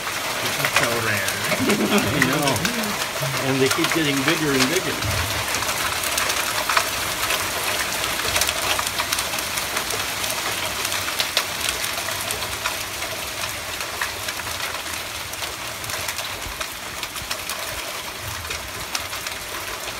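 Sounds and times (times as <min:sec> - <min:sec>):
hailstones falling on concrete: 0:03.0 - 0:19.9.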